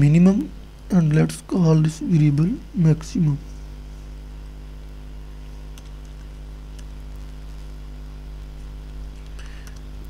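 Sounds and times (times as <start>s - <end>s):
low electrical mains hum: 0.0s - 10.0s.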